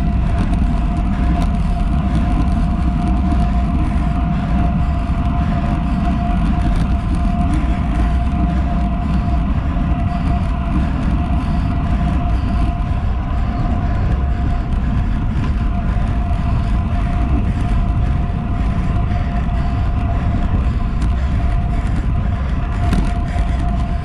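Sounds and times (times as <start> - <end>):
bike wheels rolling on asphalt: 0.0 - 24.0
steady hum: 0.0 - 24.0
wind buffeting microphone: 0.0 - 24.0.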